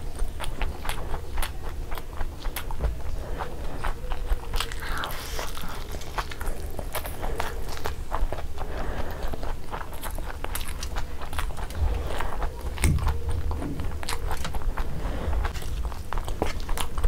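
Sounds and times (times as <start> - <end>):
low steady hum: 0.0 - 17.0
wet chewing: 0.0 - 17.0.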